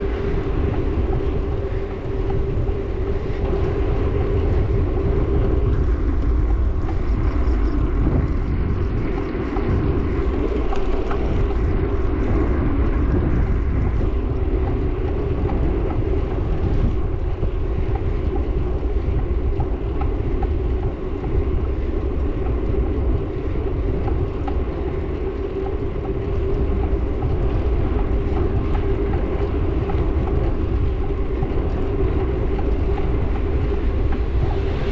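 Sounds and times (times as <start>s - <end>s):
steady running drone: 0.0s - 34.9s
wind rumble on microphone: 0.0s - 34.9s.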